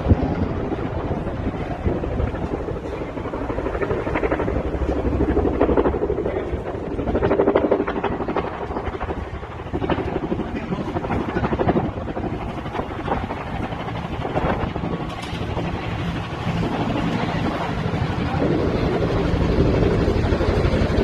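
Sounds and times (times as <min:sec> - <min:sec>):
helicopter engine noise: 0:00.0 - 0:21.0
helicopter rotor blades beating: 0:00.0 - 0:21.0.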